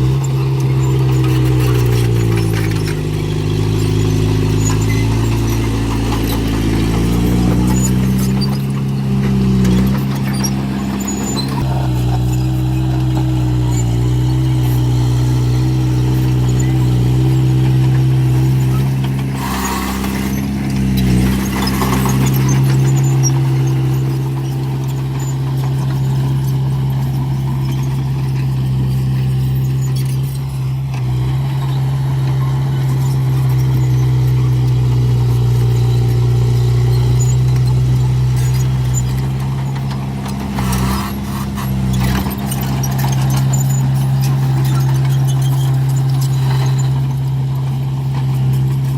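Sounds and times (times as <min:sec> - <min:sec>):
heavy diesel machinery running: 0:00.0 - 0:48.9.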